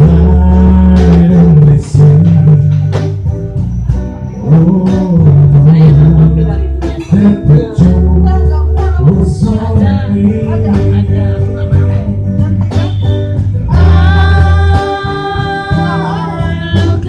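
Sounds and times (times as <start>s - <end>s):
person singing: 0.0s - 3.2s, 4.4s - 17.0s
guitar playing: 0.0s - 17.0s.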